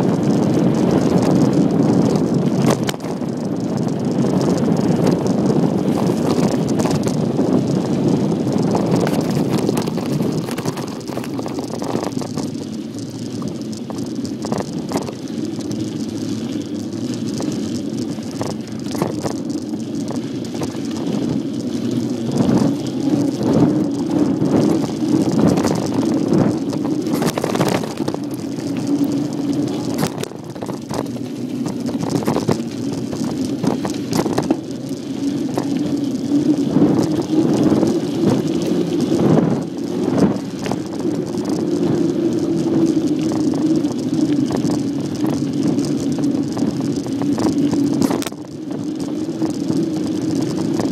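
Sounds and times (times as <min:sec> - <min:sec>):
bicycle clattering over bumps: 0:00.0 - 0:50.9
bicycle tyre rumble: 0:00.0 - 0:50.9
wind on microphone: 0:00.0 - 0:50.9.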